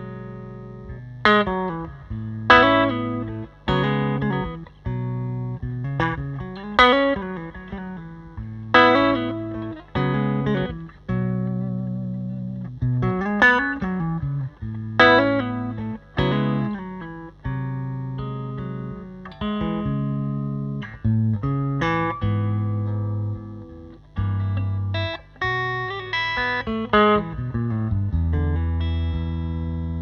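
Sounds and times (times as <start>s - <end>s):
electric guitar chords and notes: 0.0s - 30.0s.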